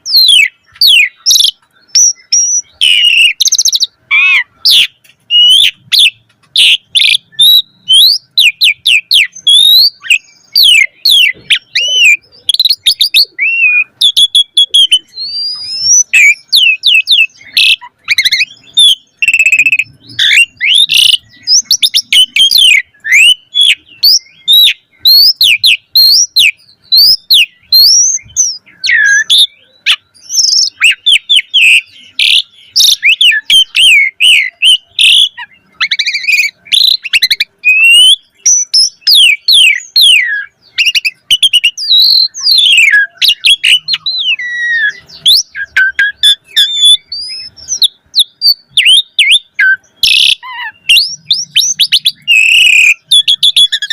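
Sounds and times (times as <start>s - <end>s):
starling singing whistles and chirps: 0.0s - 53.9s.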